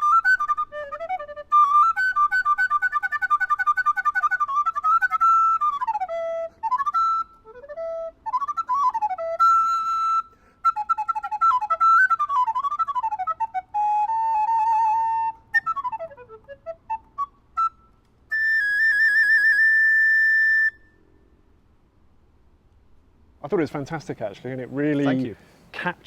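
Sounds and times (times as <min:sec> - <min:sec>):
solo recorder melody: 0:00.0 - 0:21.2.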